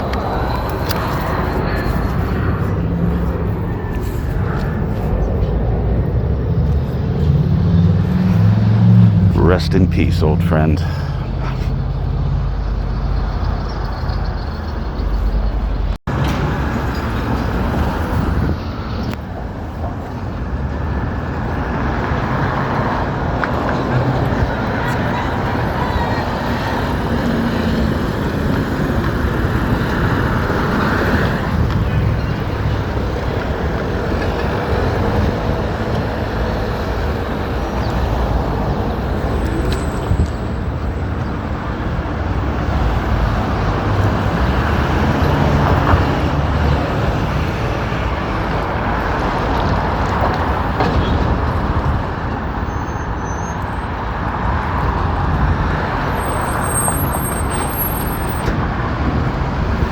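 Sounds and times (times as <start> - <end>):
street traffic passing: 0.0 - 59.9.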